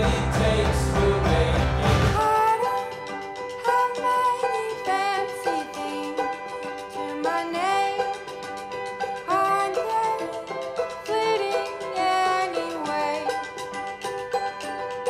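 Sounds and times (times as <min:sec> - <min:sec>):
music with sliding melody and beat: 0:00.0 - 0:15.0.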